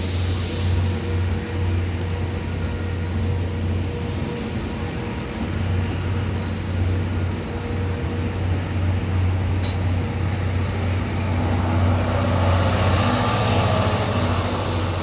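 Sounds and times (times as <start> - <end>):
train running hum: 0.0 - 15.0.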